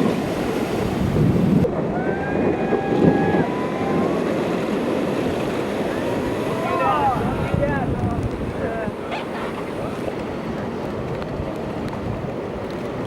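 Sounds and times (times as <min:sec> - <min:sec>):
ocean surf: 0:00.0 - 0:13.0
wind on microphone: 0:00.0 - 0:13.0.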